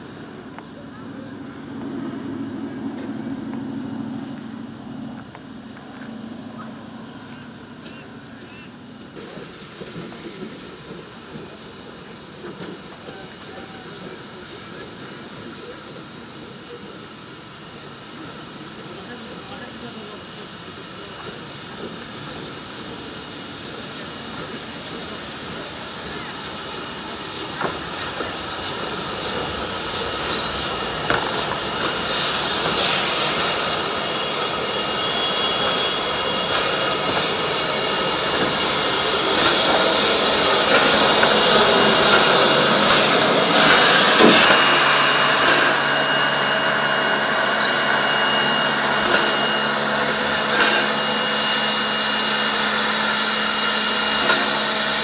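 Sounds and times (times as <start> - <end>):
steam locomotive hissing: 5.5 - 55.0.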